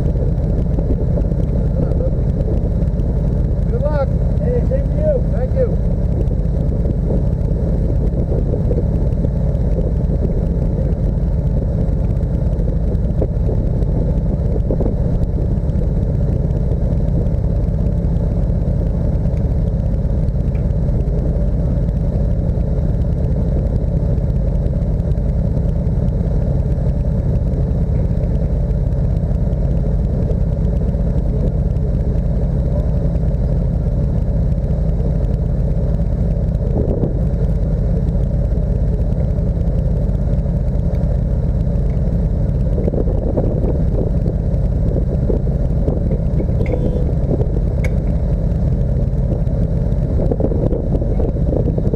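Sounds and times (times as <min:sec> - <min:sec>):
vehicle engine and road noise: 0:00.0 - 0:51.9.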